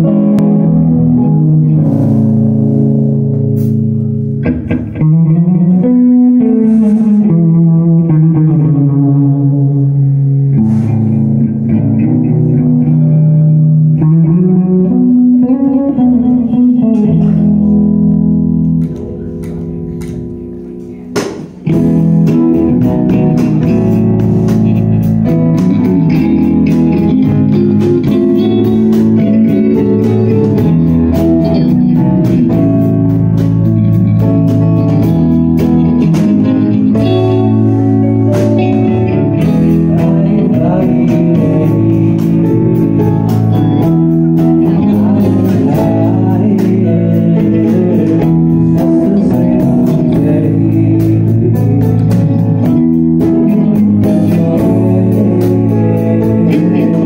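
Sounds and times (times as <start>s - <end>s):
drum kit with cymbal hits: 0.0s - 7.6s, 9.9s - 13.0s, 16.5s - 57.0s
bass guitar: 0.0s - 57.0s
electric guitars: 0.0s - 57.0s.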